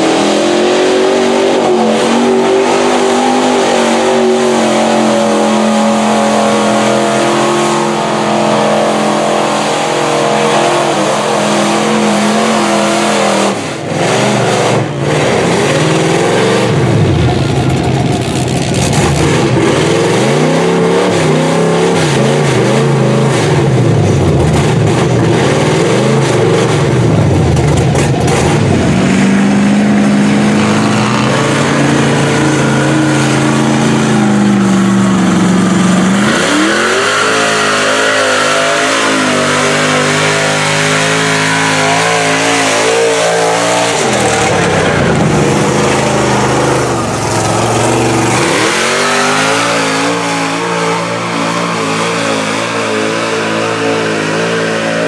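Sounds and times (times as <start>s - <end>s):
truck engines revving in mud: 0.0s - 55.0s.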